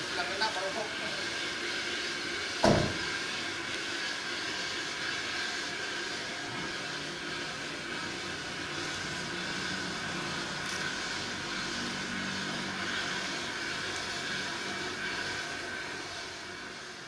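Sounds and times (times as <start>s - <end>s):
mechanical drone and hiss: 0.0s - 17.0s.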